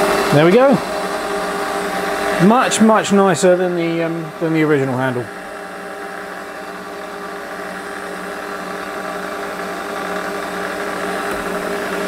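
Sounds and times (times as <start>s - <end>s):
electric motor hum: 0.0s - 12.0s.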